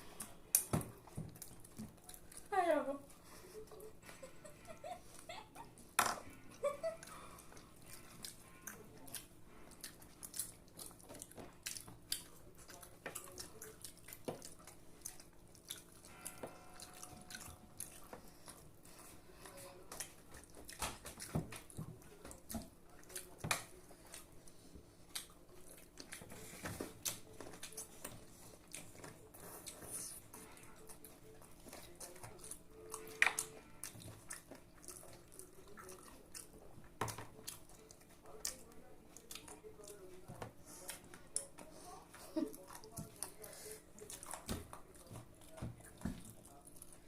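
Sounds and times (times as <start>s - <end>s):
people chewing and eating: 0.0s - 47.0s.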